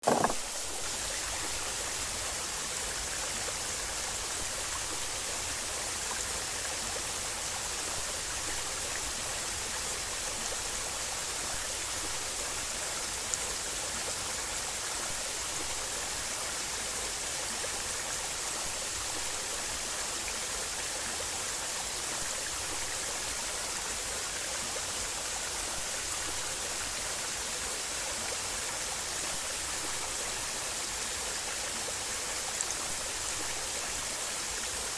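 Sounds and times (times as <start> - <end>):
waterfall pouring and splashing: 0.0 - 34.9.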